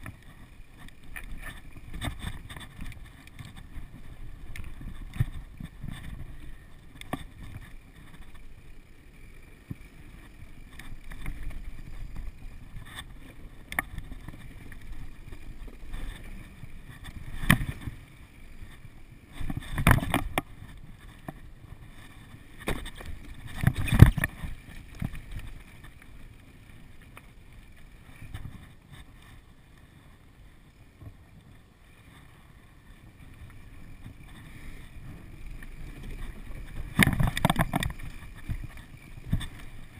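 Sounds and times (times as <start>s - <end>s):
bike knocking and rattling: 0.0s - 29.5s, 32.1s - 39.9s
bike tyres rumbling: 0.0s - 39.9s.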